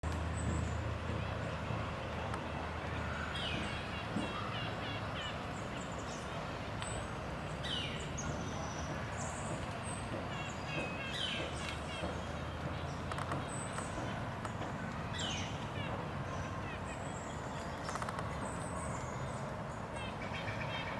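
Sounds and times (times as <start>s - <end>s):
birds calling and chirping: 0.0s - 20.9s
distant traffic hum: 0.0s - 20.9s.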